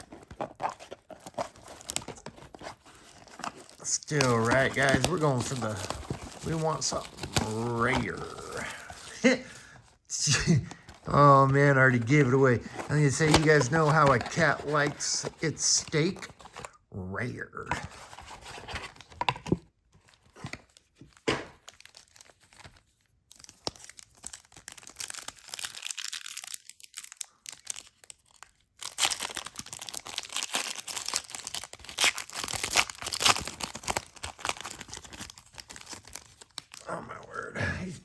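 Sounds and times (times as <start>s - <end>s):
card pack wrappers tearing: 0.0s - 9.7s, 10.4s - 16.8s, 20.2s - 37.5s.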